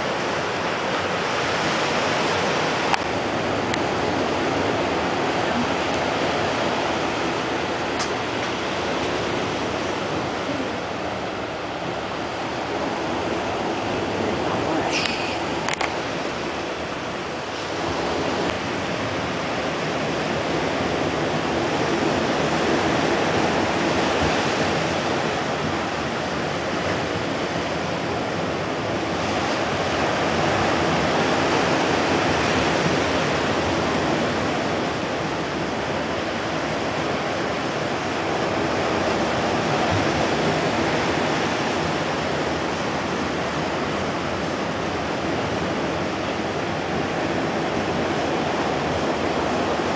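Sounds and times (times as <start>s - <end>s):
waves breaking on beach: 0.0s - 49.9s.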